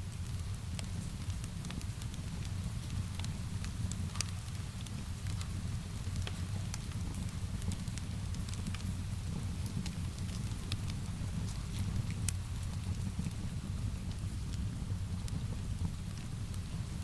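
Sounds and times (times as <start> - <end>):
rain: 0.0 - 17.0
fire crackling and popping: 0.2 - 17.0.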